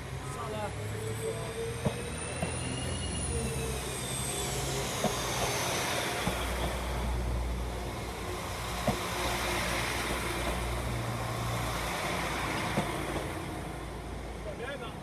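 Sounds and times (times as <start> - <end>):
train engine low hum: 0.0 - 15.0.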